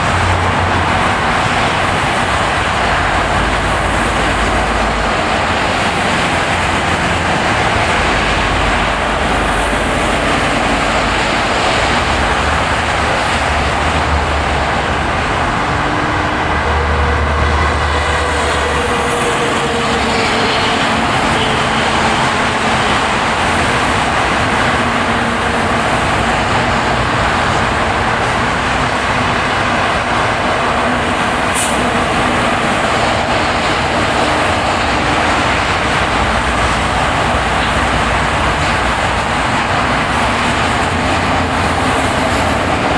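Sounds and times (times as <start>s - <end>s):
car road noise rumble: 0.0s - 42.9s.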